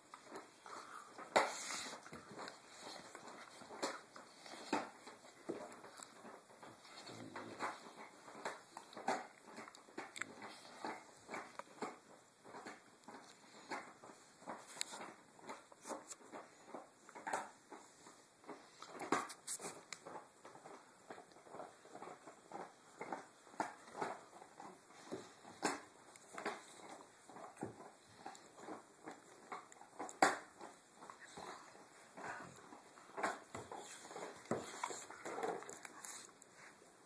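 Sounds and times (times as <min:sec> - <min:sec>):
dogs play-biting and scuffling: 0:00.0 - 0:37.0.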